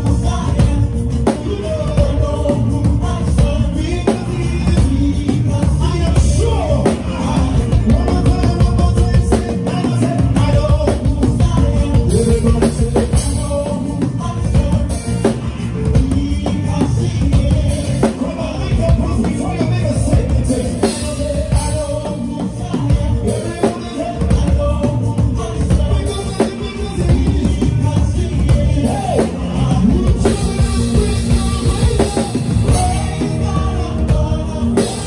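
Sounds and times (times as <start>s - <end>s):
band playing upbeat groove: 0.0s - 35.0s
bass: 0.0s - 35.0s
drum kit: 0.0s - 35.0s
person singing: 0.0s - 35.0s.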